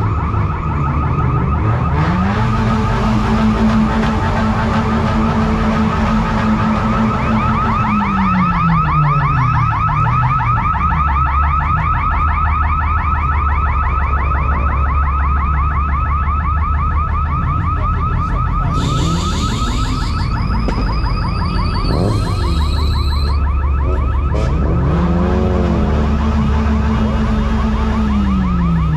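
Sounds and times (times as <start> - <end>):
vehicle engine low hum: 0.0 - 28.9
car alarm warbling chirp: 4.8 - 28.9.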